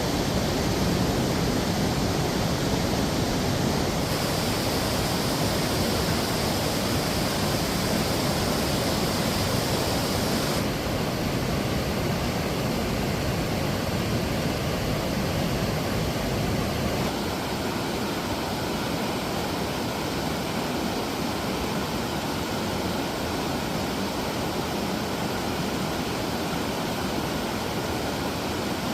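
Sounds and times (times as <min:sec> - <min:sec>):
stream and waterfalls over rocks: 0:00.0 - 0:28.9.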